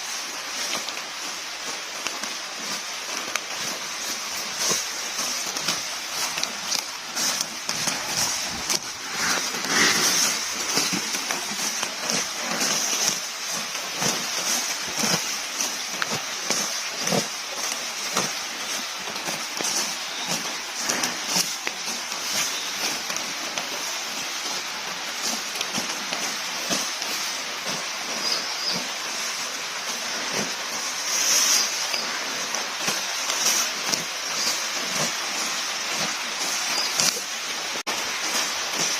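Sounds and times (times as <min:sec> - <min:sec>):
steady high hiss: 0:00.0 - 0:38.9
grass ripping and chewing: 0:01.6 - 0:37.3.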